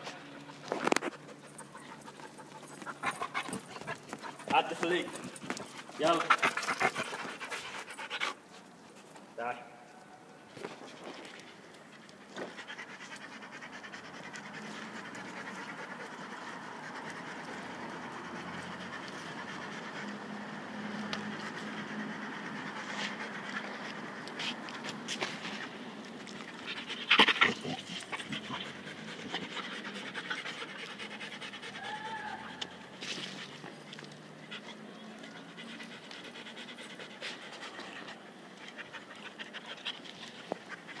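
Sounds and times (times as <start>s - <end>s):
dog panting: 0.4s - 9.2s, 10.6s - 25.7s, 26.4s - 31.8s, 34.5s - 41.0s.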